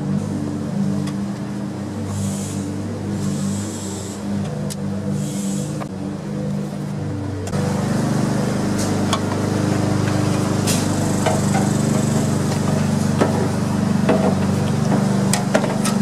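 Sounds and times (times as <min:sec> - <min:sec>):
low drone of running machine: 0:00.0 - 0:16.0.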